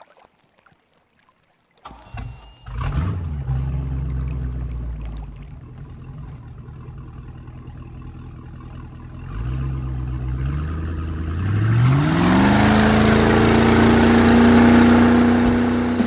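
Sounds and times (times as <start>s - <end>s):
speedboat engine revving: 1.9s - 16.0s.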